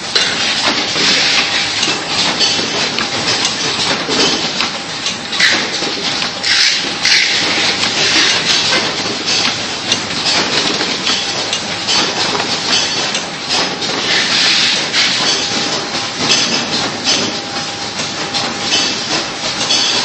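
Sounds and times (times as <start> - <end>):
machine mechanical clatter: 0.0 - 20.0.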